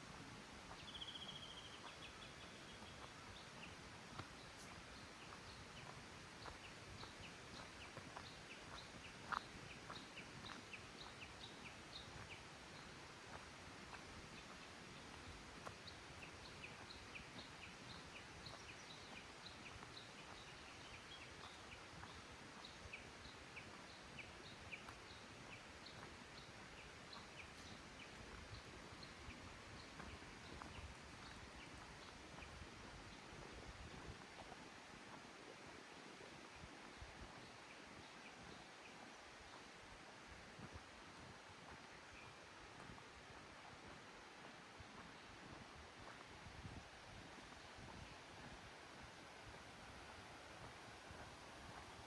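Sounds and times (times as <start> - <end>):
faint steady hiss: 0.0 - 52.0.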